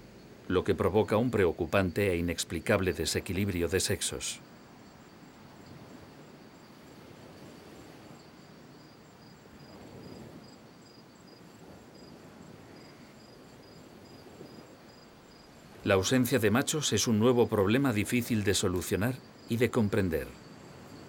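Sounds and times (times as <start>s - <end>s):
insects chirping: 0.0s - 21.0s
low background hiss: 0.0s - 21.0s.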